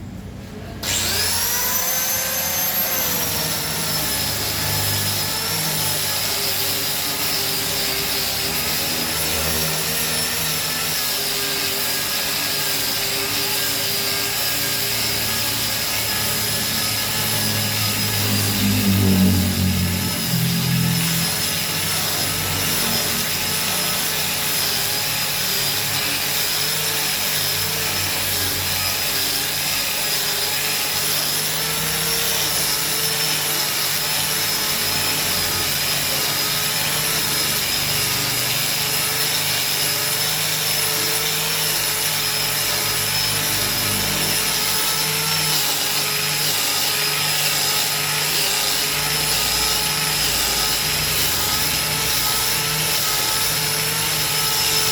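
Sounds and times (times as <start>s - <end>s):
angle grinder sanding wood: 0.8s - 54.9s.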